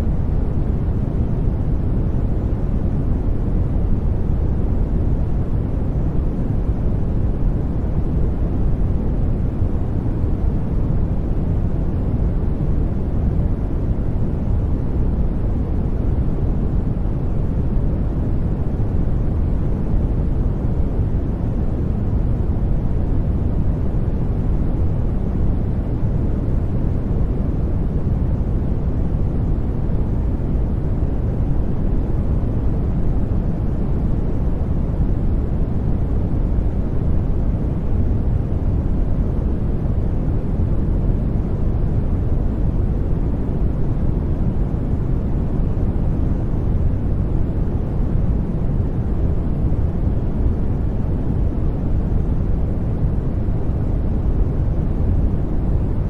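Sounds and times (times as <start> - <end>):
deep rumbling white noise: 0.0 - 56.0.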